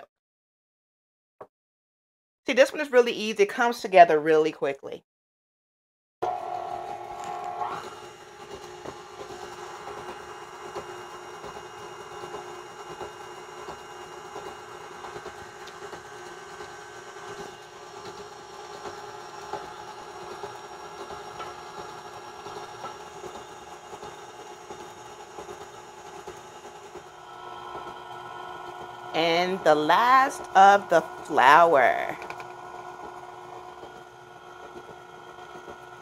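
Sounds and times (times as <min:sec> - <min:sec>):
stand mixer motor hum: 0:06.2 - 0:36.0.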